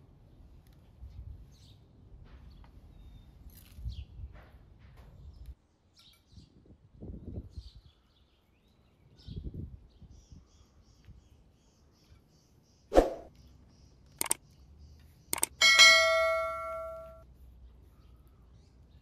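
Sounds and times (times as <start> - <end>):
small birds chirping: 0.3 - 4.4, 5.1 - 15.7, 17.3 - 19.0.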